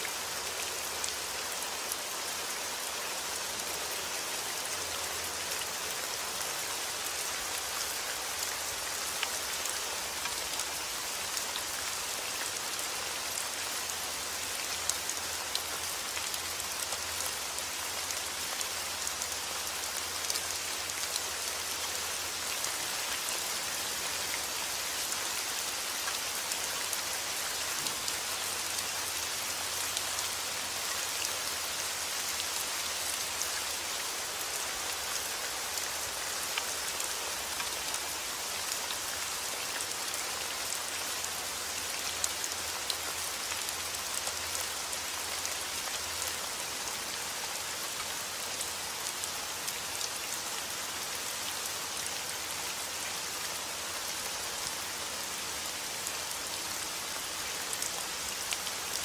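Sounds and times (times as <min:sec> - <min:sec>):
raindrops ticking on surfaces: 0:00.0 - 0:50.7
heavy rain falling: 0:00.0 - 0:59.0.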